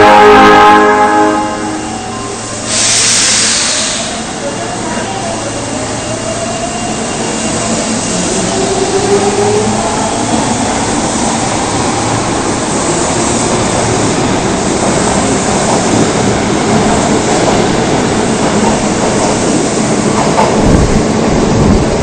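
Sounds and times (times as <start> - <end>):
train running on track: 0.0 - 22.0.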